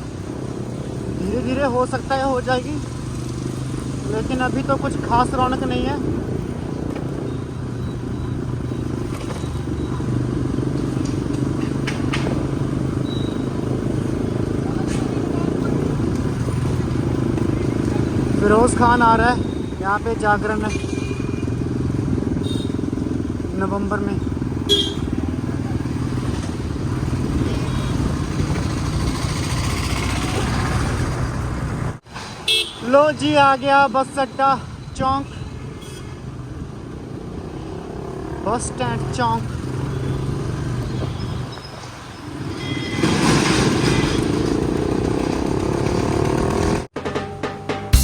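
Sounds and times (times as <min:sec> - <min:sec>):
road and traffic noise: 0:00.0 - 0:48.0.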